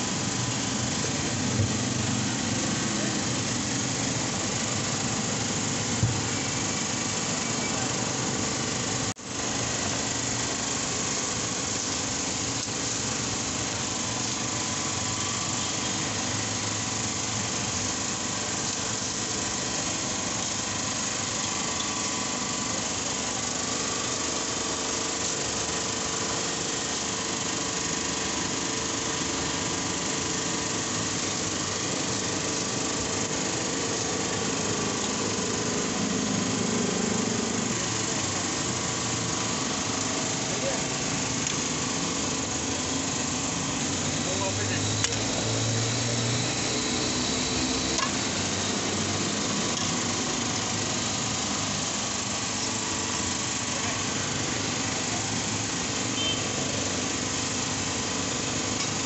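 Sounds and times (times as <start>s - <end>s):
mechanical drone with hiss: 0.0s - 59.0s.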